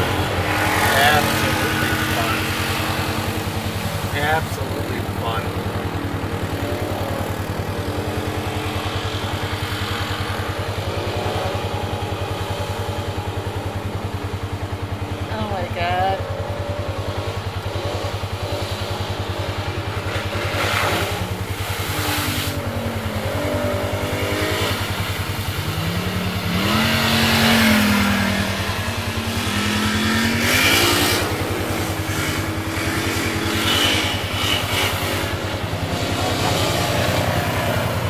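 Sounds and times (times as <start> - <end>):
water splashing and spraying: 0.0 - 13.6, 17.4 - 38.0
off-road engines revving: 0.0 - 38.0.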